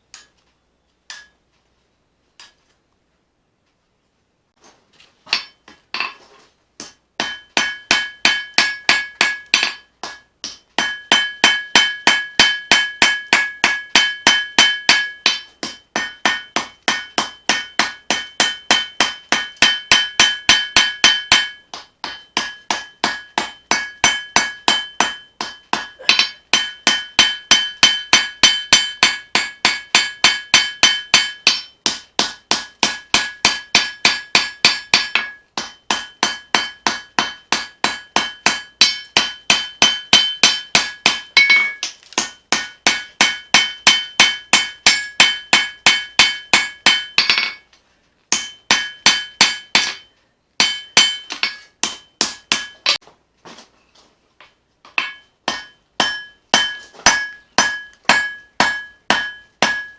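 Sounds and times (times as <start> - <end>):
hammer striking blade on anvil: 0.1 - 0.4, 1.1 - 1.4, 5.3 - 6.2, 6.8 - 47.7, 48.3 - 53.0, 54.9 - 59.9.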